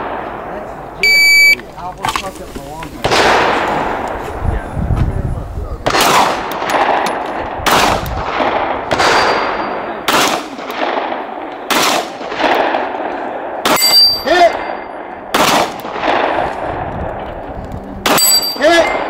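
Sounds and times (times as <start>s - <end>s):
rifle shots echoing: 0.0s - 1.0s, 3.0s - 4.2s, 5.8s - 19.0s.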